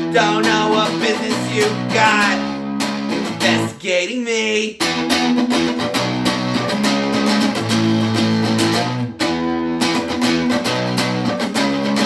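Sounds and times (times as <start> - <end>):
amplified guitar strumming chords: 0.0 - 3.9, 4.8 - 12.0.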